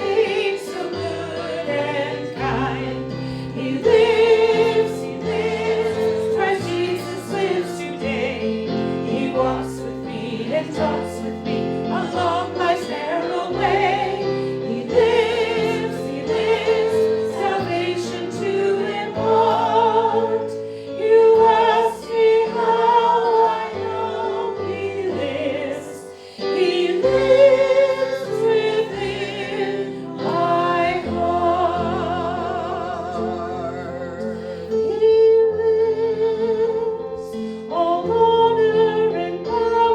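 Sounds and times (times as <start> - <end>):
instrumental accompaniment: 0.0 - 37.3
choir singing a hymn: 0.0 - 39.9.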